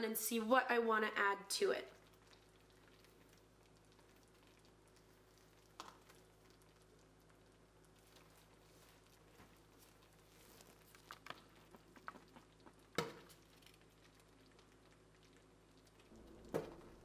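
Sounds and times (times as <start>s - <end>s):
pan bubbling on stove: 1.8s - 17.0s.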